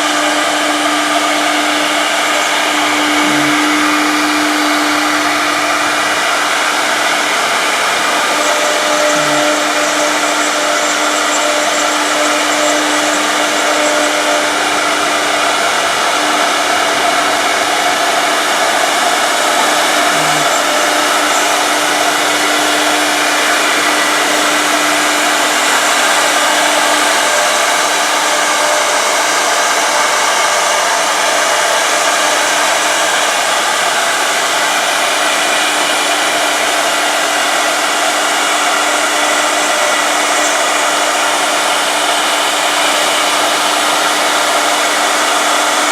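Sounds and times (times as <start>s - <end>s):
router spindles whirring: 0.0s - 45.9s.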